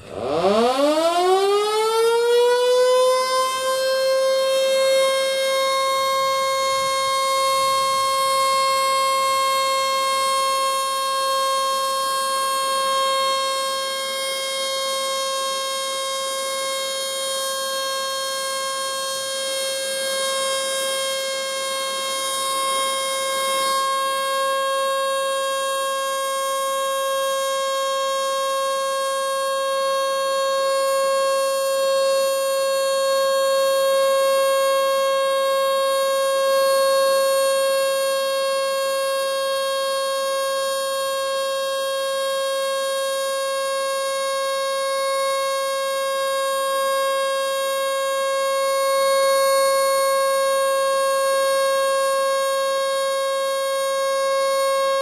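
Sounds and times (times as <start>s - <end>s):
electric siren wailing: 0.0s - 55.0s.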